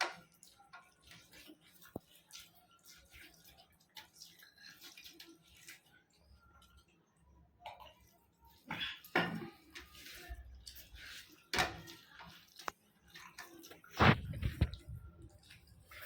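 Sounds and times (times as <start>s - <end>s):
wet eating sounds: 0.0s - 16.0s.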